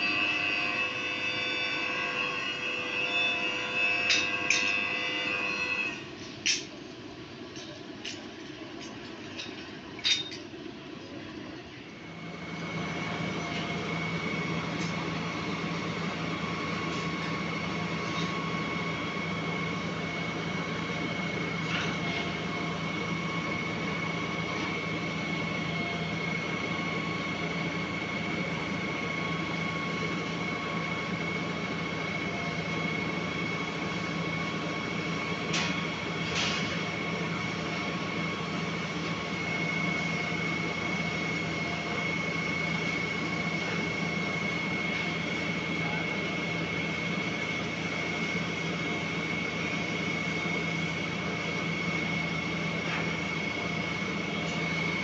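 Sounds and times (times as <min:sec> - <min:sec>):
pump engine drone with whine: 0:00.0 - 0:55.0.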